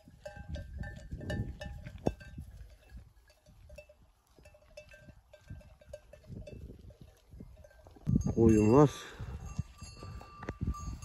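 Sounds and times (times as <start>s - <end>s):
sheep bells clanking: 0.0s - 11.0s.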